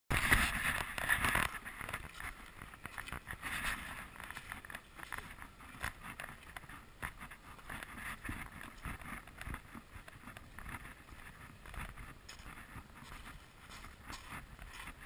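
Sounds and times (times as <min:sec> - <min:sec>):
footsteps on gravel and mud: 0:00.1 - 0:15.0
wind rumbling on microphone: 0:00.1 - 0:15.0.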